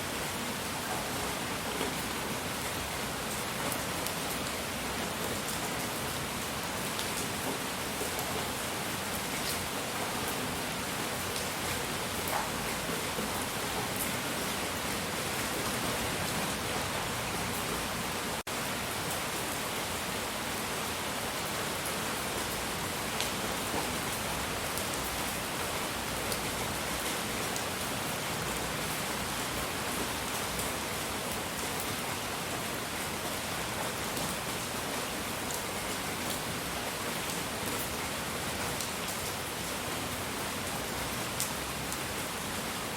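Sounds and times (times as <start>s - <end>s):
rain-like noise hiss: 0.0s - 42.9s.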